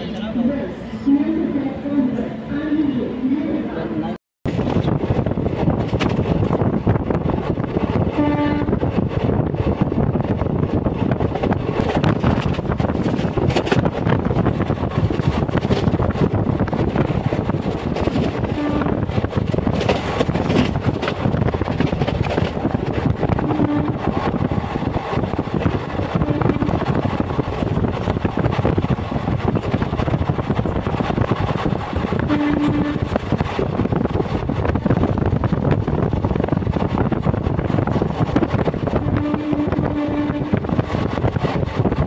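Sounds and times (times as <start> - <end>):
train running: 0.0 - 42.0.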